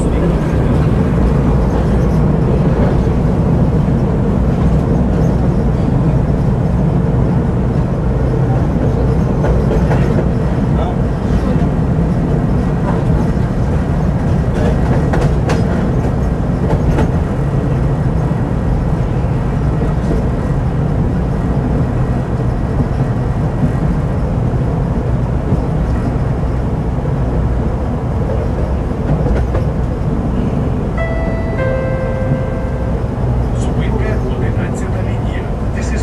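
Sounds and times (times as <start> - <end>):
tram body rattling: 0.0 - 36.0
tram wheels rumbling on rails: 0.0 - 36.0.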